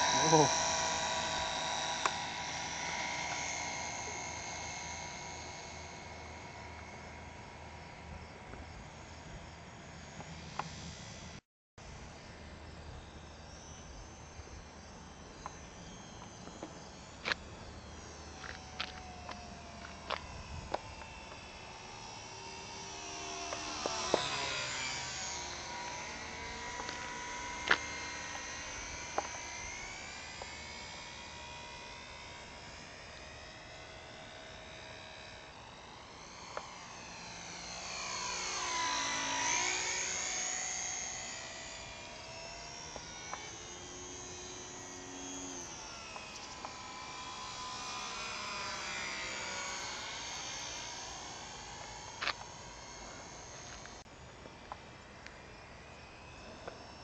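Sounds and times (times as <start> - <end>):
model plane motor whining: 0.0 - 11.4, 12.4 - 57.0.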